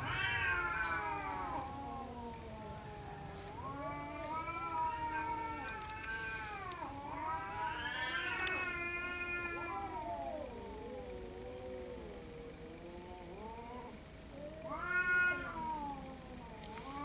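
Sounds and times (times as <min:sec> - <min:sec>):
cats yowling: 0:00.0 - 0:17.0.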